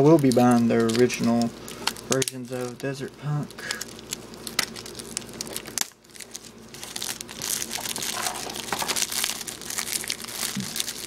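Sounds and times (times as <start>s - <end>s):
plastic shrink-wrap crinkling: 0.0s - 11.0s.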